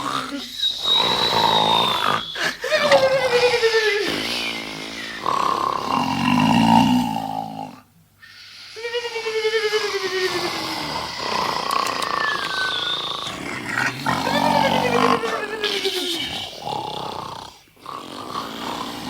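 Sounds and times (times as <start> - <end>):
men snoring loudly: 0.0 - 7.9, 10.3 - 19.0.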